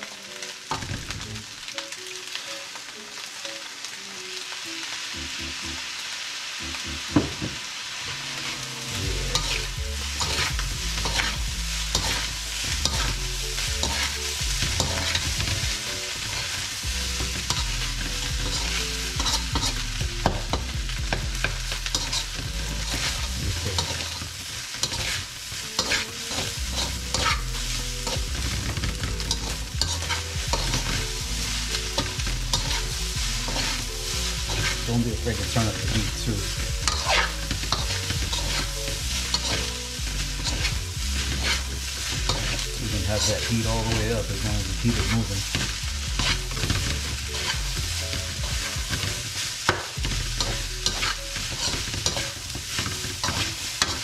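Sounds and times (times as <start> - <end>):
rice sizzling in a skillet: 0.0 - 54.0
metal spoon scraping a pan: 8.4 - 20.7, 21.4 - 54.0.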